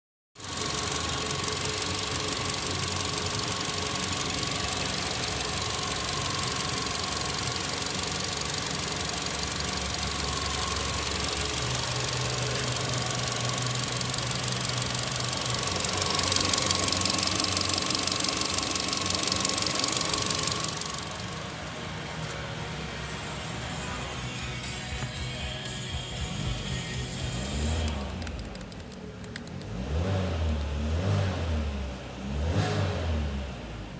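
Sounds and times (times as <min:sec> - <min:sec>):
car engine idling: 0:00.4 - 0:32.4.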